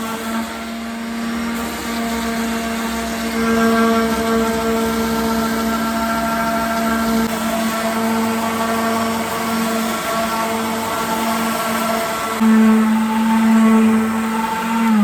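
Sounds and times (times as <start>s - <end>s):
electric sander running: 0.0s - 15.0s.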